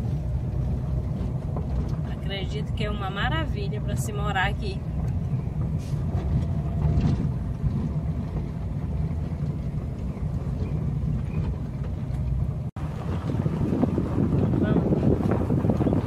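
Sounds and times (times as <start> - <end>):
vehicle rumble on rough road: 0.0 - 16.0.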